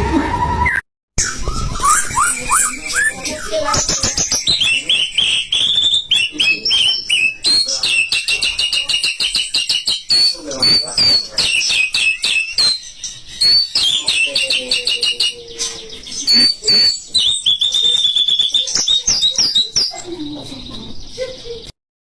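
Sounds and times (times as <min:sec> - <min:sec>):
songbird singing whistles and trills: 0:00.7 - 0:20.1.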